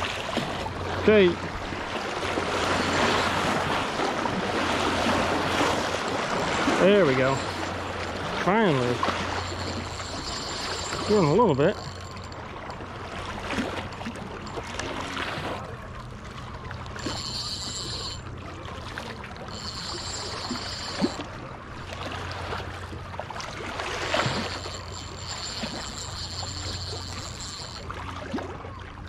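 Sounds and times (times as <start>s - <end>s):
fishing reel whine: 0.0s - 29.0s
water lapping: 0.0s - 29.0s
steady low hum: 0.7s - 29.0s.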